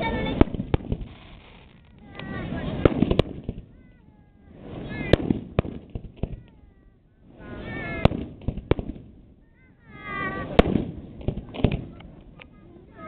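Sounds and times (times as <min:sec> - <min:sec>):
fireworks bursting with sharp bangs: 0:00.0 - 0:13.0.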